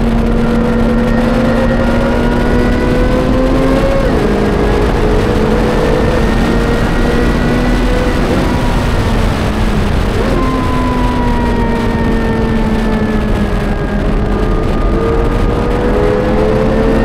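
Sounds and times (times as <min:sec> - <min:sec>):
sports car engine at full throttle: 0:00.0 - 0:17.0
wind and road noise: 0:00.0 - 0:17.0.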